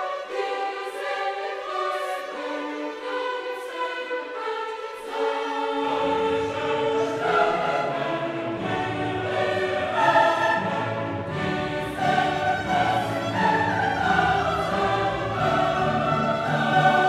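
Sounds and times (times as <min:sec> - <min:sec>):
choir singing sustained notes: 0:00.0 - 0:17.0
orchestra playing: 0:01.8 - 0:17.0.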